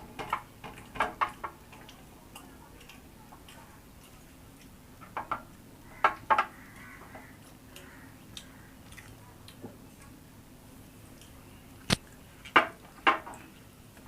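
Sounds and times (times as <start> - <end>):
soft eating ticks: 0.1 - 14.0.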